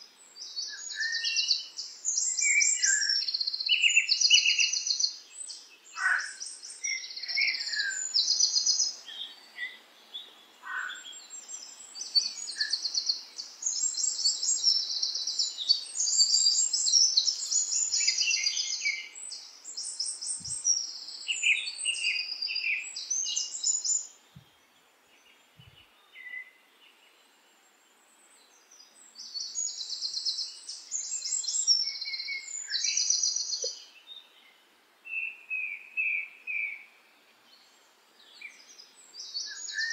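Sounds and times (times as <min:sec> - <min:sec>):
small birds trilling and chirping: 0:00.0 - 0:39.9.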